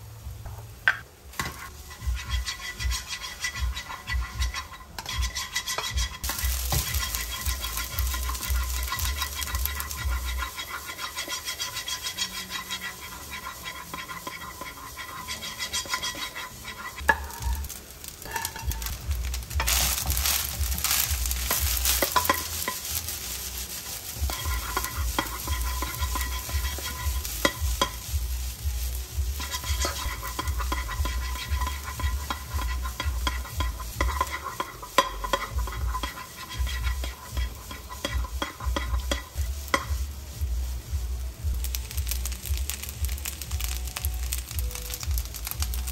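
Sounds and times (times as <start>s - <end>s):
rice sizzling: 0.0s - 45.9s
spatula scraping frying pan: 1.4s - 40.3s.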